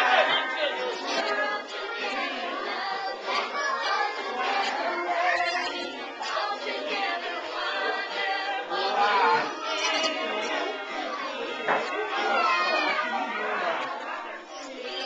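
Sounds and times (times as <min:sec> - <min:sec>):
children and women singing: 0:00.0 - 0:15.0.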